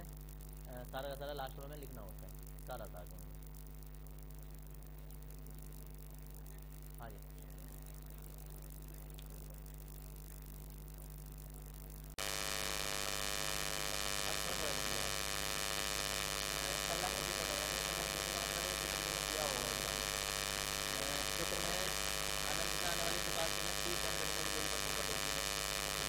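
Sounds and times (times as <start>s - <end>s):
electrical buzzing hum: 0.0s - 26.0s.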